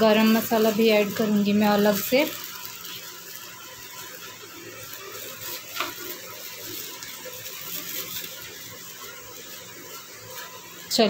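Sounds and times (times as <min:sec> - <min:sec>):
paste sizzling in oil: 0:00.0 - 0:11.0
short crackle: 0:00.3 - 0:10.6.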